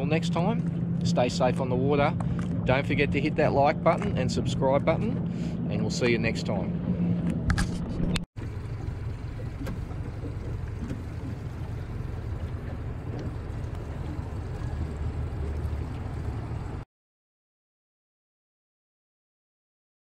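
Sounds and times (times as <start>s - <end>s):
outboard motor low rumble: 0.0s - 16.9s.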